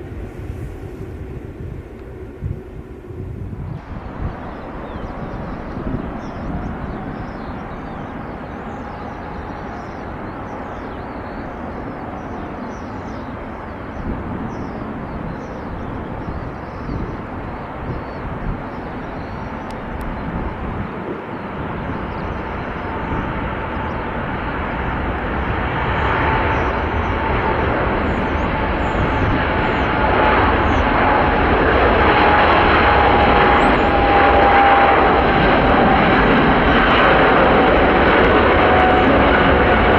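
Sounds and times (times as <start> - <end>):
airplane engines rushing: 0.0 - 39.9
steady engine whine: 0.0 - 39.9.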